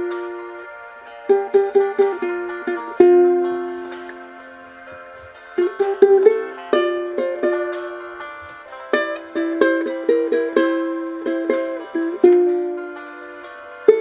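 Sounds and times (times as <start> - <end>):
solo ukulele: 0.0 - 14.0.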